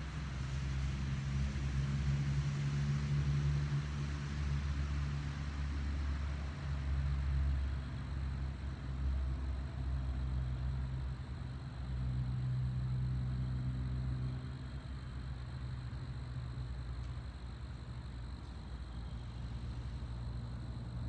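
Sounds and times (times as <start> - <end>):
engine rumble: 0.0 - 21.0.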